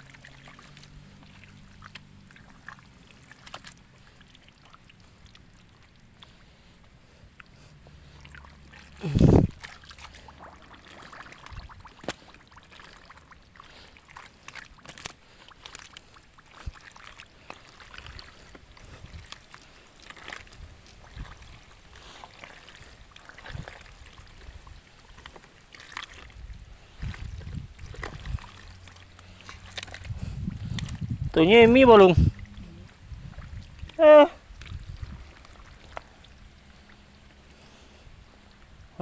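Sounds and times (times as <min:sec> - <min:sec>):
shallow water sloshing: 0:00.0 - 0:39.0.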